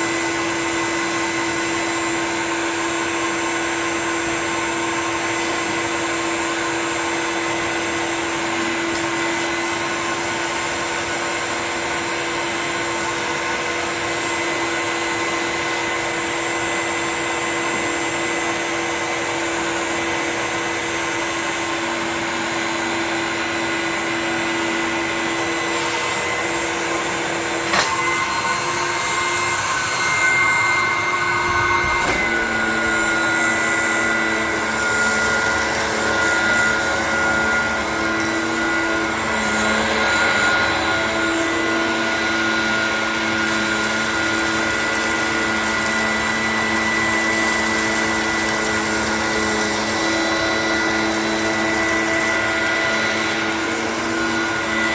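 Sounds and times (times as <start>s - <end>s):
vacuum cleaner motor whine: 0.0s - 54.9s.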